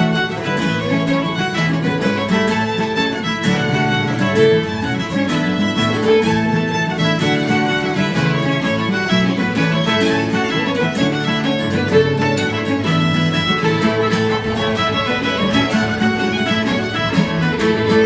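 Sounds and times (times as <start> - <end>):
fiddle playing a jig: 0.0 - 18.0
strummed guitar: 0.0 - 18.0.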